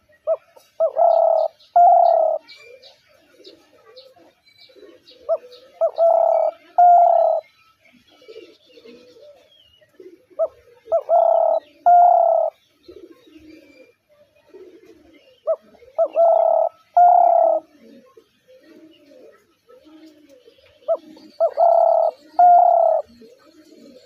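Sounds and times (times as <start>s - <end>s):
dove cooing: 0.0s - 24.0s
other birds cooing and chirping: 0.0s - 24.0s.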